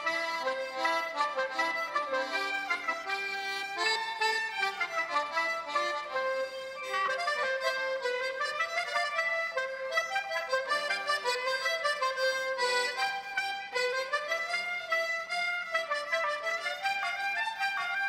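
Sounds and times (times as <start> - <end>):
fiddle folk dance tune: 0.0 - 18.0
reedy free-reed instrument: 0.0 - 18.0.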